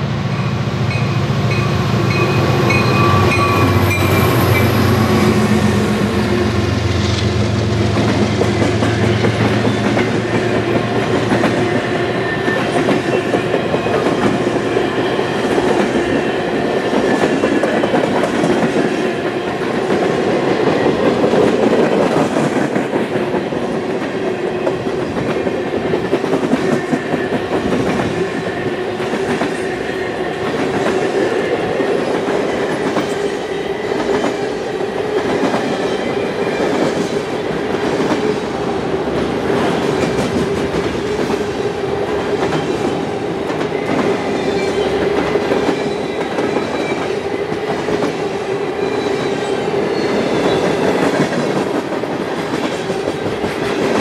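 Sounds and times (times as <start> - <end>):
freight train cars rolling past: 0.0 - 54.0.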